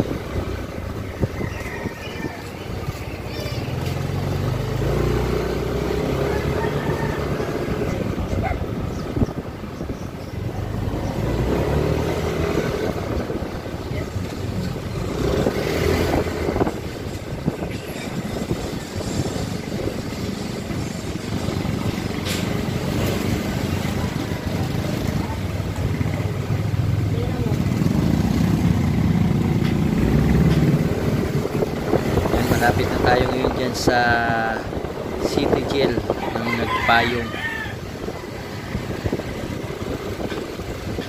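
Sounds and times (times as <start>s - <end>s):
scooter engine running: 2.3s - 36.2s.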